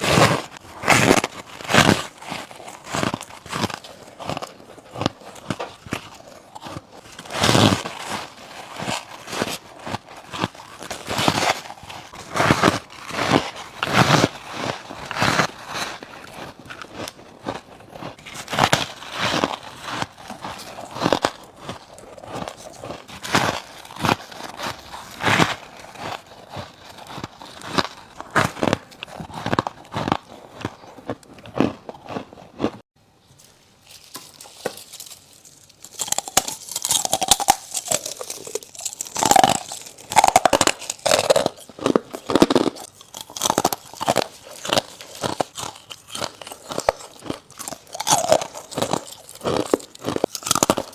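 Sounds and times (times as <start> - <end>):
crunching frost ice: 0.0 - 32.8, 33.4 - 50.9.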